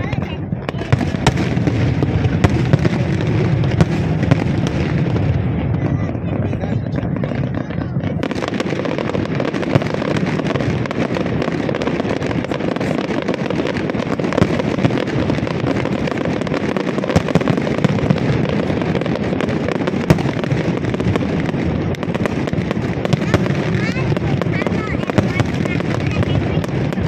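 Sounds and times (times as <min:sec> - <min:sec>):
fireworks crackling: 0:00.0 - 0:27.0
loud firework bangs: 0:00.0 - 0:27.0.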